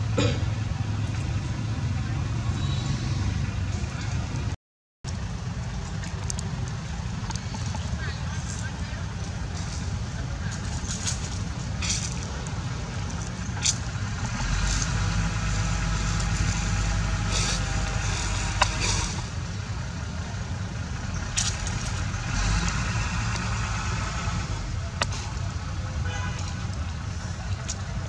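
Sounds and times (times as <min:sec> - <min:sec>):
engine idling: 0:05.1 - 0:28.0.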